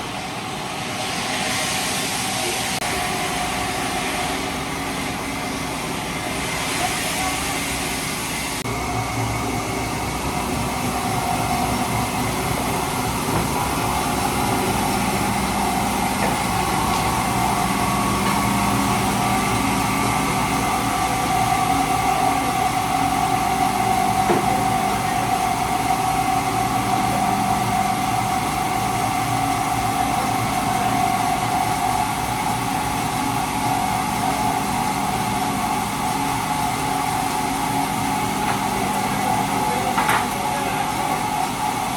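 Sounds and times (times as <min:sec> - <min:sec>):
heavy machinery drone: 0:00.0 - 0:41.9
steady mechanical whine: 0:00.0 - 0:41.9.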